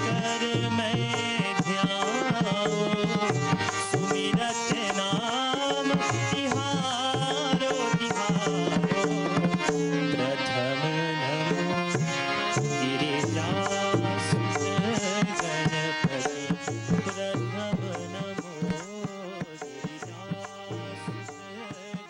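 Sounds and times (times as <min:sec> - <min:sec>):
harmonium chords: 0:00.0 - 0:22.0
man singing: 0:00.0 - 0:22.0
tabla playing: 0:00.0 - 0:22.0.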